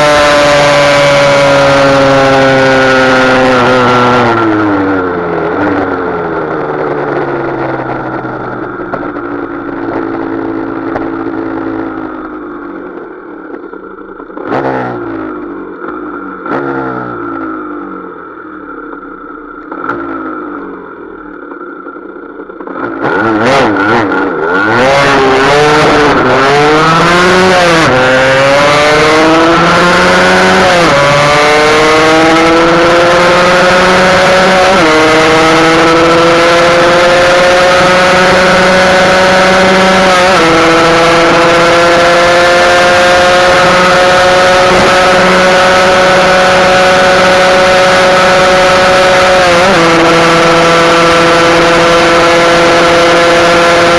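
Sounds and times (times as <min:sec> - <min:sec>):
two-stroke engine accelerating: 0:00.0 - 0:53.9.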